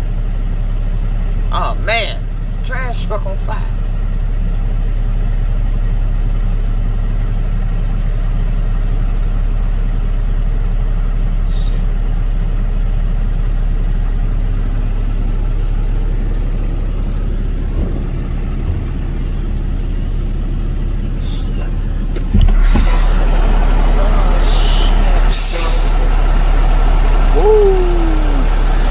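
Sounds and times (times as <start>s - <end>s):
truck diesel engine idling: 0.0s - 28.9s.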